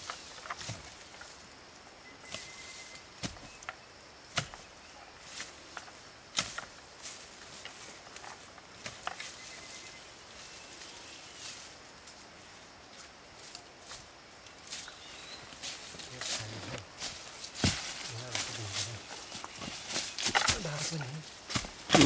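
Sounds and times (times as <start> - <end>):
knocks and scuffs of digging soil: 0.0 - 1.4, 2.3 - 9.6, 13.0 - 22.0.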